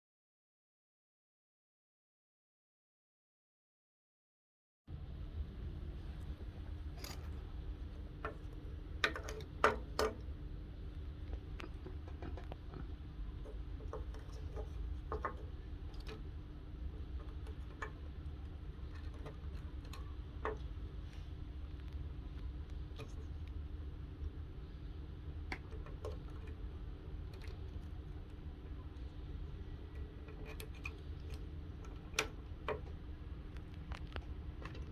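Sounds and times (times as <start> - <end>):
steady low hum: 4.9 - 34.9.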